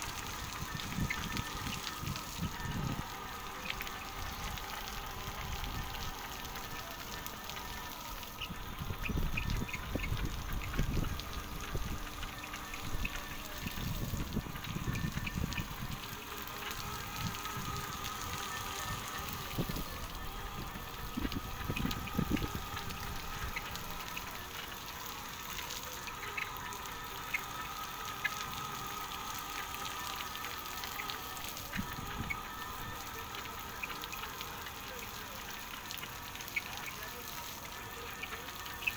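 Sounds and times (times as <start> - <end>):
faint steady whine: 0.0 - 38.9
water spraying and trickling on glass: 0.0 - 38.9.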